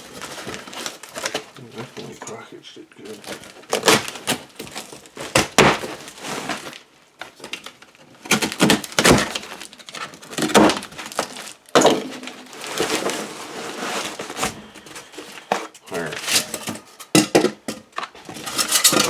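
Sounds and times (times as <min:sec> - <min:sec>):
packing material knocks and clacks: 0:00.0 - 0:02.4, 0:03.0 - 0:19.0
packing material rustling: 0:00.0 - 0:02.4, 0:03.0 - 0:17.0.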